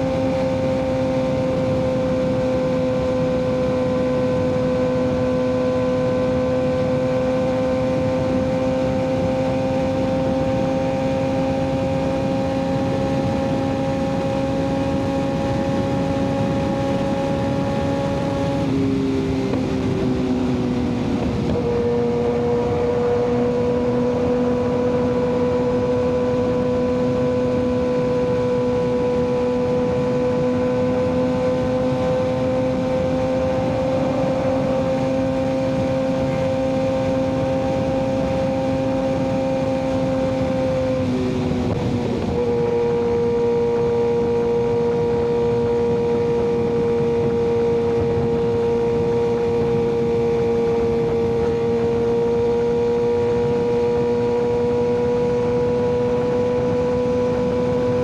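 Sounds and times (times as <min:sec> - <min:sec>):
motorcycle engine at road speed: 0:00.0 - 0:58.0
wind rush: 0:00.0 - 0:58.0.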